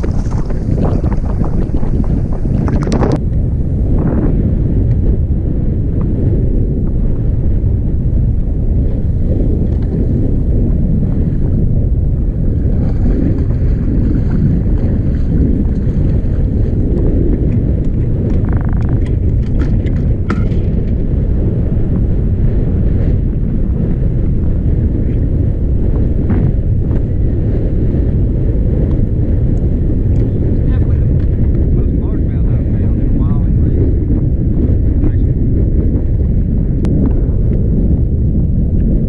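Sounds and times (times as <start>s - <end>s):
boat engine rumble: 0.0s - 39.0s
wind buffeting microphone: 0.0s - 39.0s.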